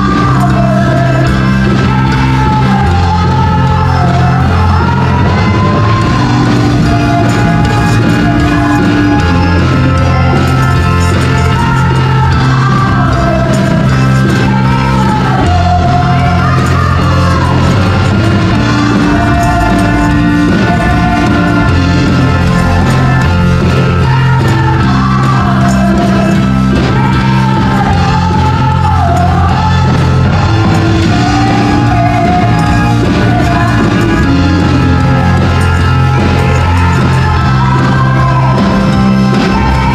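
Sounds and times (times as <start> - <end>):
band accompaniment: 0.0 - 39.9
women singing into microphones: 0.0 - 39.9.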